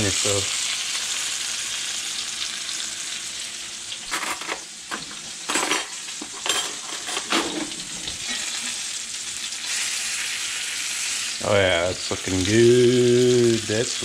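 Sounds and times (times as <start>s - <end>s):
fish sizzling in skillet: 0.0s - 14.0s.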